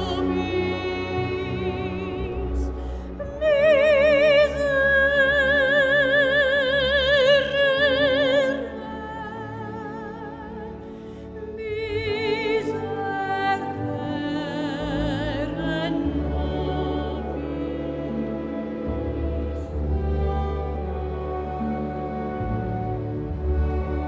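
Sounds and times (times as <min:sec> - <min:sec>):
slow classical music: 0:00.0 - 0:24.0.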